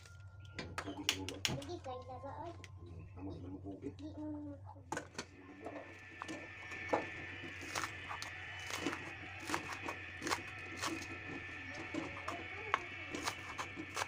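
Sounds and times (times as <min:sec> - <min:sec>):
high-pitched hum: 0:00.0 - 0:14.0.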